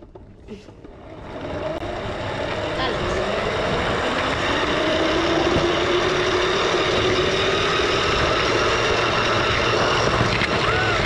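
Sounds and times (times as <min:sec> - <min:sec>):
low hum: 0:00.0 - 0:11.0
model train wheels rumbling: 0:00.0 - 0:11.0.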